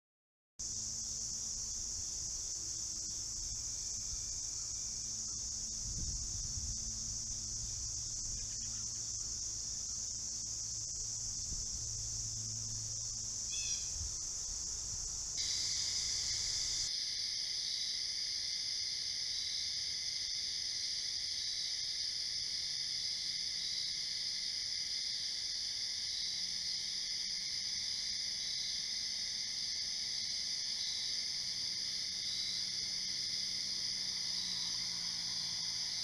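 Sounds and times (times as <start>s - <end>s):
crickets chirping: 0.6s - 36.0s
insects buzzing: 0.6s - 36.0s.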